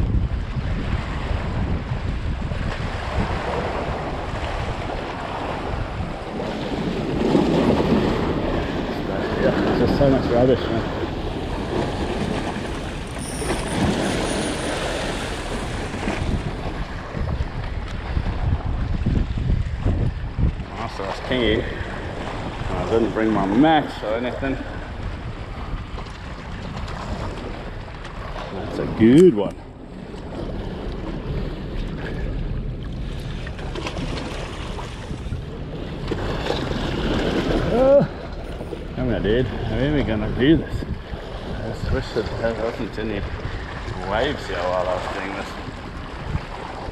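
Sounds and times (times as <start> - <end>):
waves splashing against rocks: 0.0 - 46.9
wind on microphone: 0.0 - 46.9.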